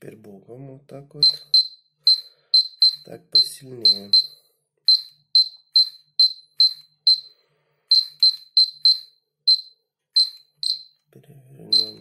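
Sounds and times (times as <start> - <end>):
dosimeter high-pitched beeps: 1.2 - 11.0, 11.7 - 12.0.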